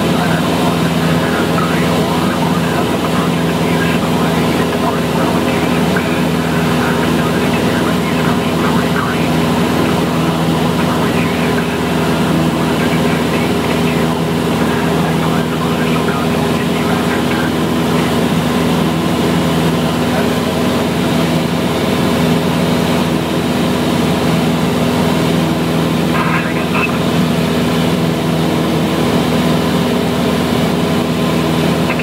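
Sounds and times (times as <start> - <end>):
airplane engine droning in cabin: 0.0 - 32.0.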